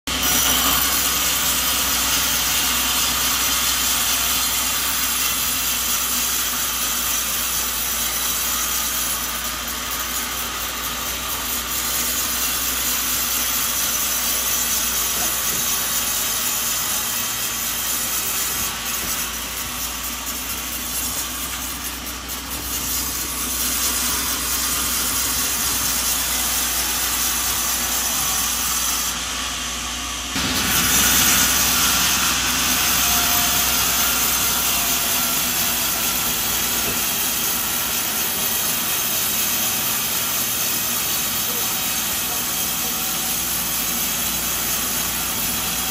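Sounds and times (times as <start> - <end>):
sawmill saw cutting wood: 0.1 - 45.9.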